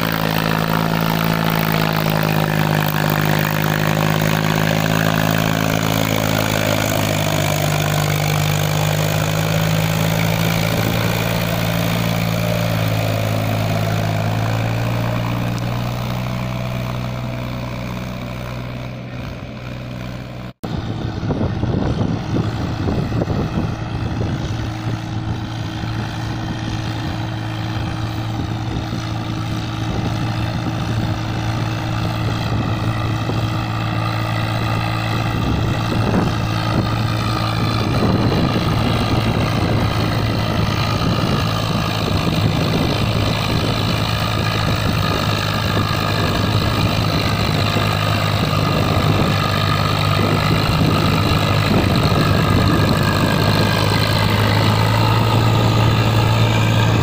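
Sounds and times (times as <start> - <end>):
rough tractor engine pulling uphill: 0.0 - 57.0
tractor diesel engine running: 0.0 - 57.0.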